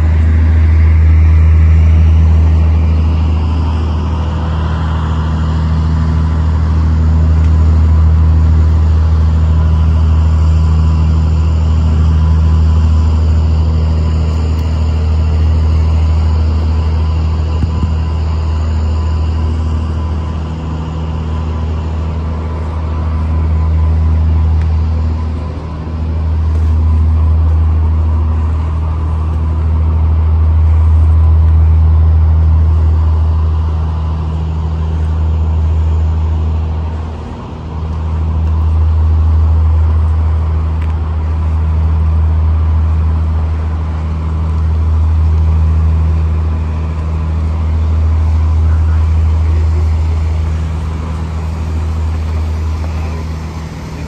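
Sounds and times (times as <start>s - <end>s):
low outdoor rumble: 0.0s - 54.0s.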